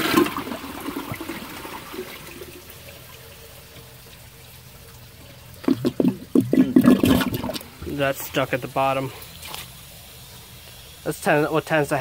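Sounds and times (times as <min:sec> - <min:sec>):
toilet flushing: 0:00.0 - 0:12.0
water trickling: 0:00.0 - 0:12.0.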